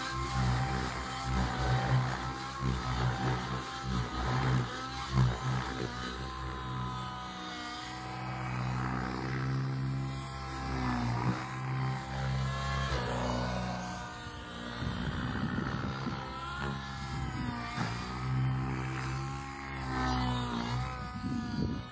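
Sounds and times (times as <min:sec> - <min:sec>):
model helicopter engine: 0:00.0 - 0:21.9
rotor blade chops: 0:00.0 - 0:21.9.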